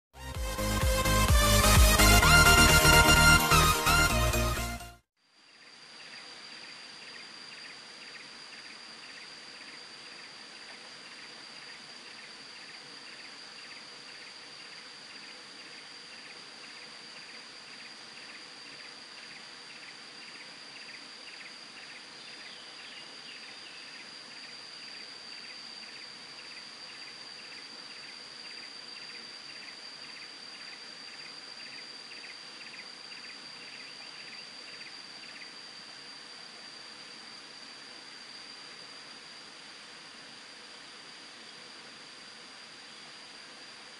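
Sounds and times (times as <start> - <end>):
high-pitched insect whine: 0.5 - 43.9
insect chirping: 5.2 - 43.9.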